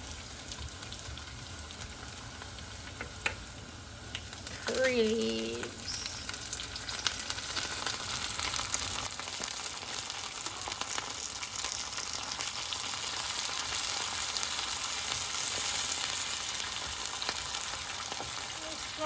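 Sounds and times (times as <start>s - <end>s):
hot oil sizzling: 0.0s - 19.0s
oil popping and crackling: 0.0s - 19.0s.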